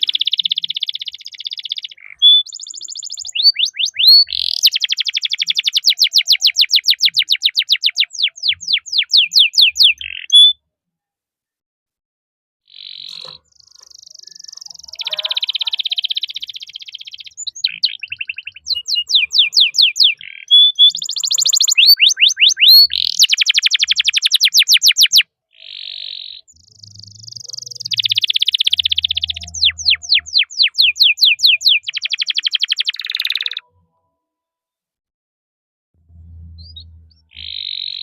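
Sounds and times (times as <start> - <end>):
canary singing: 0.0 - 10.6, 12.7 - 33.7, 36.4 - 38.0.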